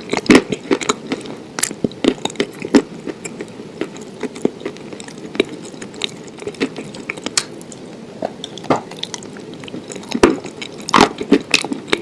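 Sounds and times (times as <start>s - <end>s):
wet chewing clicks and squishes: 0.0s - 7.8s, 8.4s - 12.0s.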